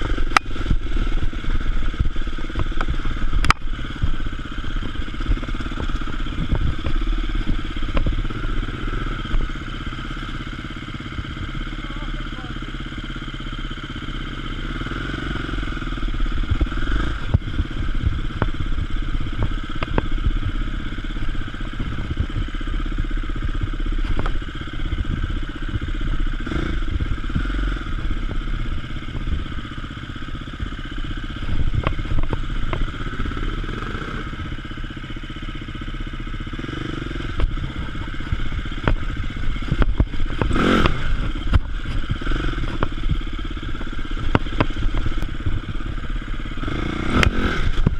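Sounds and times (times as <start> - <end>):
motorcycle engine at low revs: 0.0 - 47.9.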